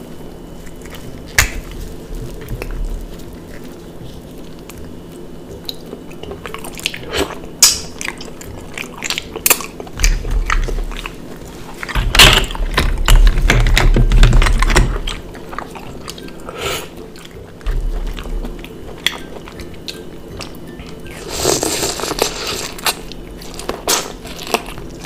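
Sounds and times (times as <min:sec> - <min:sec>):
biting and sucking shellfish: 0:00.4 - 0:25.0
chewing with wet smacks: 0:00.5 - 0:21.2.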